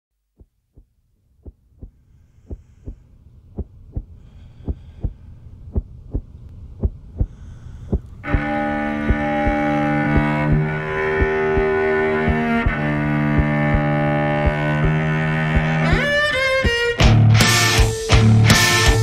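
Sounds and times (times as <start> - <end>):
low hum: 0.2 - 17.4
heartbeat thumps: 0.3 - 18.3.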